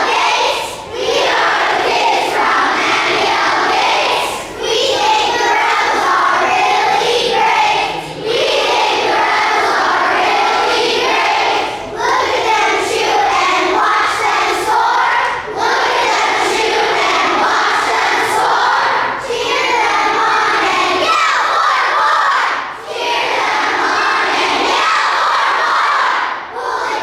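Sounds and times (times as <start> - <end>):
children shouting a cheer: 0.0 - 27.0.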